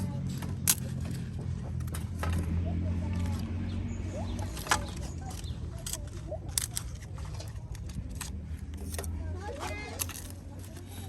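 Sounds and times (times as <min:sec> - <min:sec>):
iron parts clinking: 0:00.0 - 0:02.6, 0:04.2 - 0:11.0.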